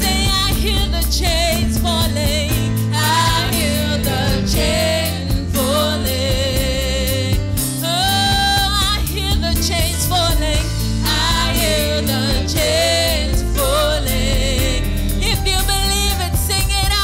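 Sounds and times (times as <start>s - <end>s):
bass: 0.0s - 17.0s
drum kit: 0.0s - 17.0s
keyboard: 0.0s - 17.0s
woman singing with vibrato: 0.0s - 17.0s.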